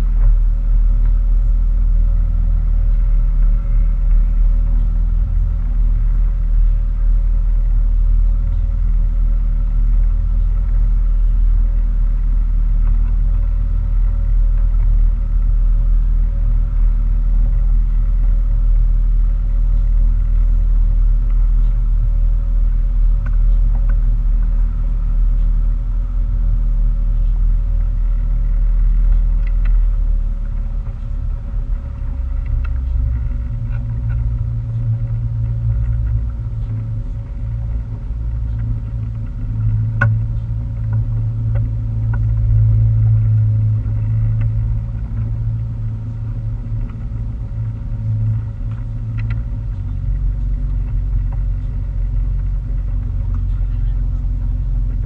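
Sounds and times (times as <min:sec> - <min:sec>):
motorboat engine rumbling: 0:00.0 - 0:55.0.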